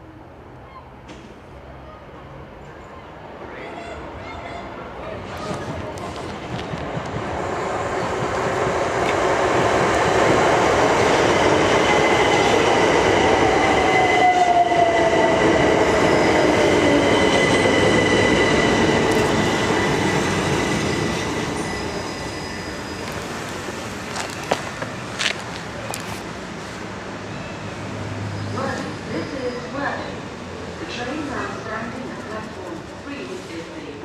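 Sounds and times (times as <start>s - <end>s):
electric train passing: 1.6s - 34.0s.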